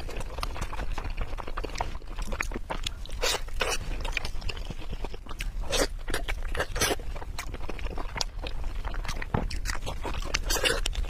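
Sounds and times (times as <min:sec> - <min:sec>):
crunching crispy food: 0:00.0 - 0:11.0.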